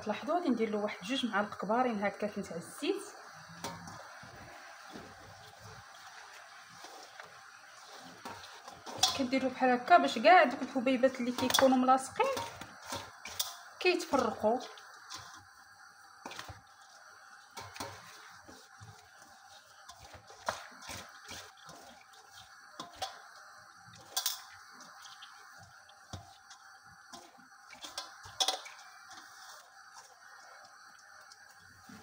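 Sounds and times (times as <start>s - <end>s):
grains scraping metal bowl: 3.0s - 15.5s, 16.2s - 30.7s.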